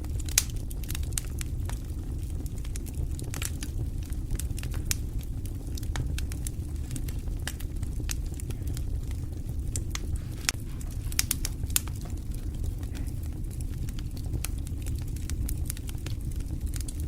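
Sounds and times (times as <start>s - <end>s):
fire crackling: 0.0s - 17.0s
low rumble of flames: 0.0s - 17.0s
sharp pops from fire: 0.0s - 17.0s.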